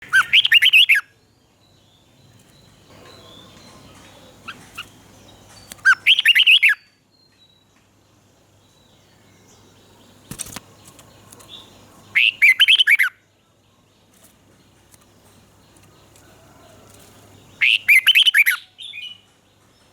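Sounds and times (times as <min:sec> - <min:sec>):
faint bird chirps: 0:00.0 - 0:07.9, 0:08.5 - 0:19.9
bird warbling song: 0:00.0 - 0:19.9.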